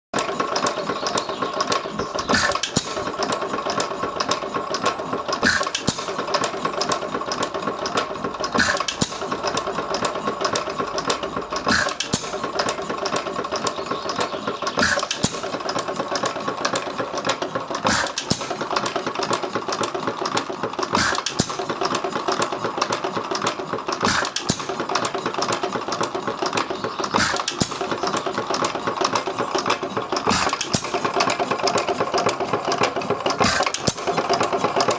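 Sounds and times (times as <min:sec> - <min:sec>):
engine mechanical clatter: 0:00.2 - 0:34.9.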